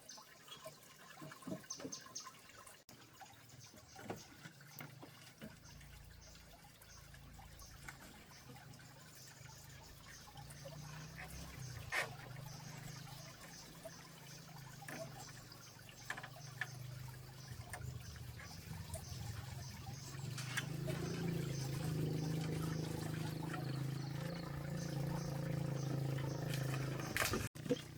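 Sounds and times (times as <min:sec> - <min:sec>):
water trickling and pouring: 0:00.0 - 0:27.9.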